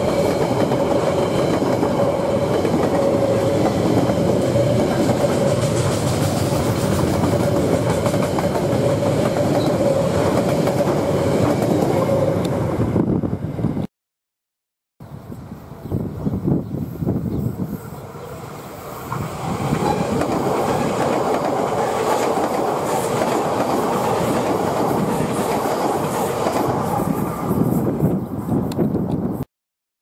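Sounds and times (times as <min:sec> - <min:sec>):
train wheels rumbling on track: 0:00.0 - 0:13.8, 0:17.0 - 0:29.3.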